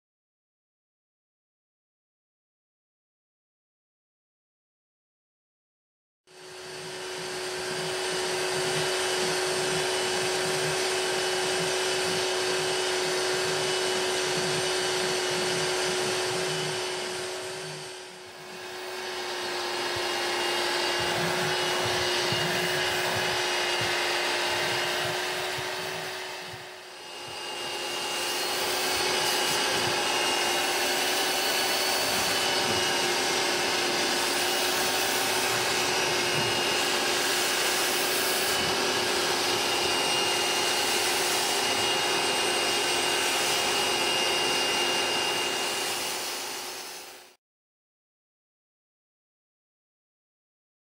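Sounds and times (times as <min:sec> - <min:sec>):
carpet cleaner vacuum whine: 0:06.3 - 0:47.4.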